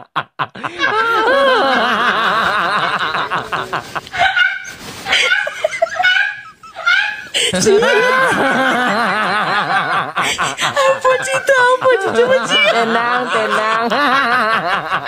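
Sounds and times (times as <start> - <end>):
people laughing and snickering: 0.0 - 15.0.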